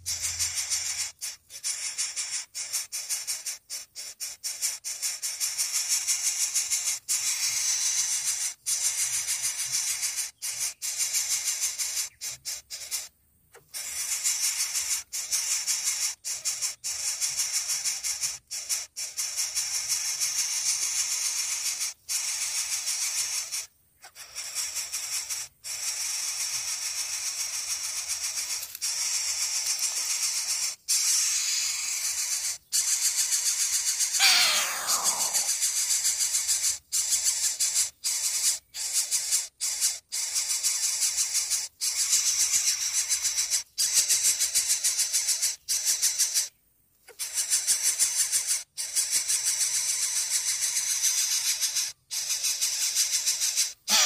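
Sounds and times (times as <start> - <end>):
nestlings begging hiss: 0.0 - 54.0.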